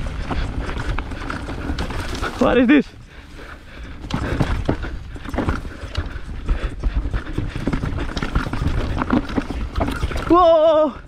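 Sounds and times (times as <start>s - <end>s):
bike knocks and rattles: 0.0s - 2.8s, 3.9s - 10.9s
rumble of tyres and wind: 0.0s - 11.0s.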